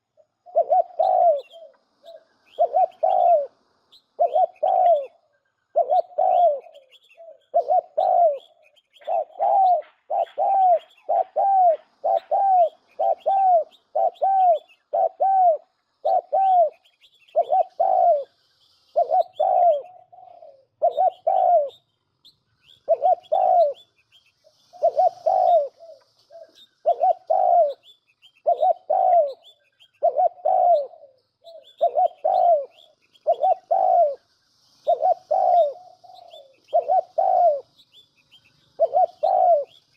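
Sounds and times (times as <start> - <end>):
dove cooing: 0.0 - 21.8, 22.7 - 23.9, 24.5 - 37.8, 38.6 - 39.9
faint high chirping: 0.0 - 39.9.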